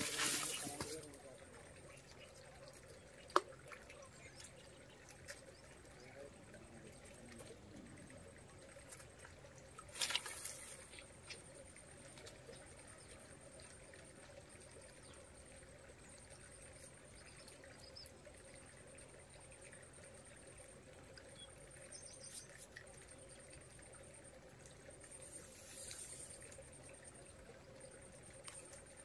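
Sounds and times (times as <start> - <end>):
faint trickling water: 0.0 - 29.0.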